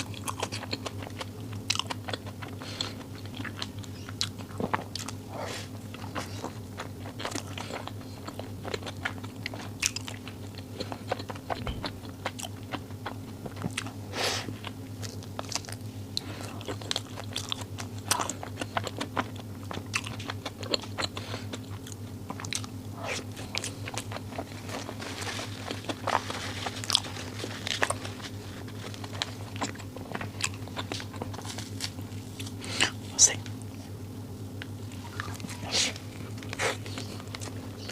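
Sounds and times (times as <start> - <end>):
person chewing: 0.0 - 34.0, 34.6 - 37.9
low hum: 0.0 - 37.9.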